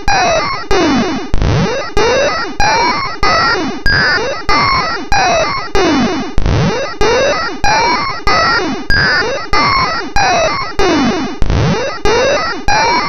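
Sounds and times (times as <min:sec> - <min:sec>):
synthesized looping sound effect: 0:00.0 - 0:13.0.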